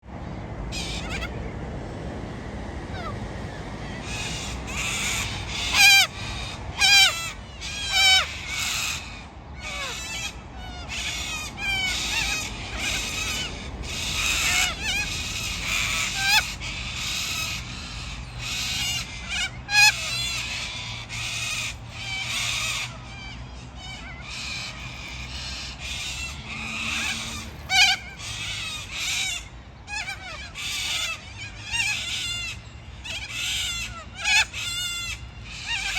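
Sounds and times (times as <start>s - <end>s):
parrots squawking: 0.7s - 1.4s, 2.9s - 35.9s.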